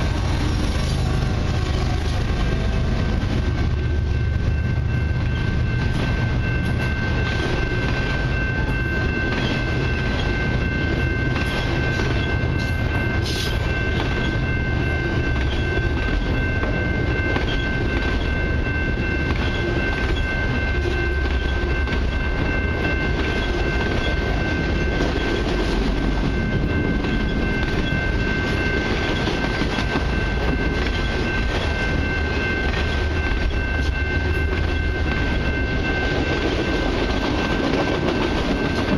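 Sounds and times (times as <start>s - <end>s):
train wheels rumbling on rail: 0.0s - 38.9s
high ringing tone: 2.2s - 38.9s.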